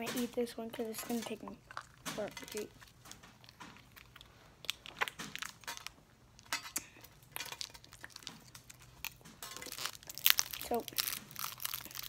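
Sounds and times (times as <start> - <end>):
candy wrapper crinkling: 1.6 - 12.0.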